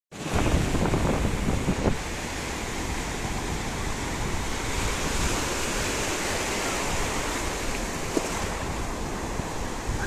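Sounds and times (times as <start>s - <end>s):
wind rumbling on microphone: 0.1s - 10.0s
surf washing up sand: 0.2s - 10.0s.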